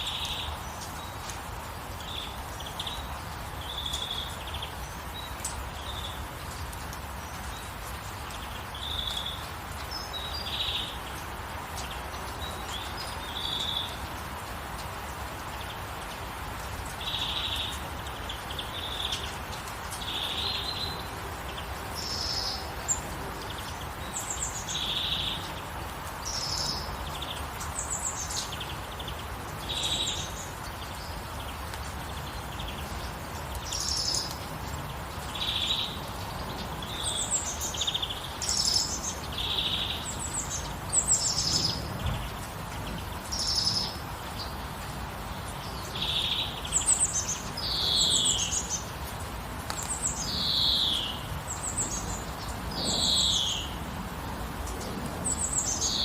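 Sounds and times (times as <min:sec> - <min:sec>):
gentle rain: 0:00.0 - 0:56.0
songbirds chirping: 0:00.0 - 0:56.0.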